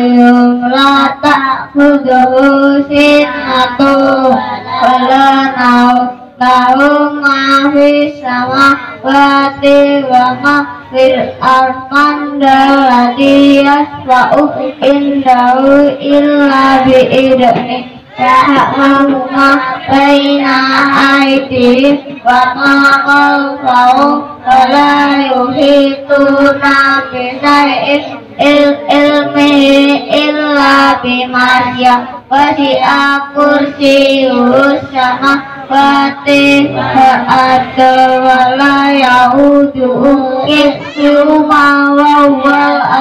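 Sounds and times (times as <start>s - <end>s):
boys singing through loudspeakers: 0.0s - 43.0s.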